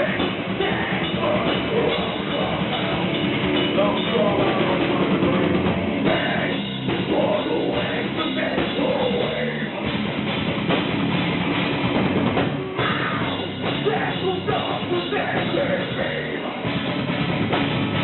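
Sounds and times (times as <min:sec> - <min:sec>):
heavy metal band playing live: 0:00.0 - 0:18.0.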